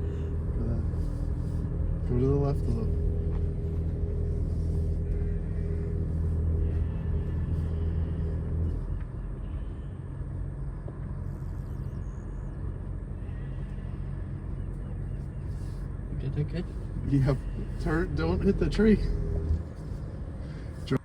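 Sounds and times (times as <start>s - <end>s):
truck engine low hum: 0.0s - 21.0s.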